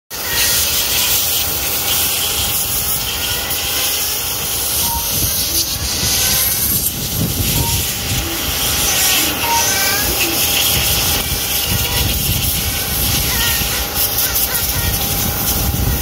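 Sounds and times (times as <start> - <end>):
rc car motors and tyres hissing: 0.1 - 16.0
rising motor whines: 0.2 - 16.0.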